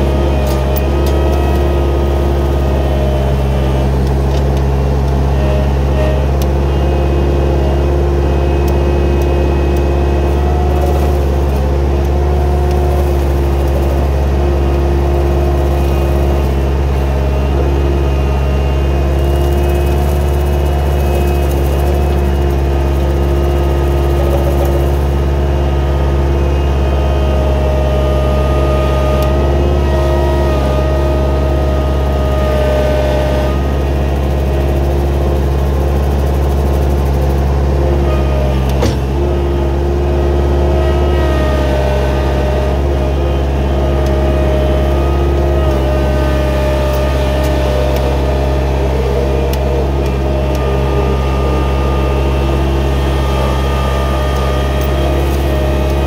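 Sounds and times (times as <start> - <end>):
engine drone: 0.0 - 56.0
hydraulic brush cutter whine: 0.0 - 56.0.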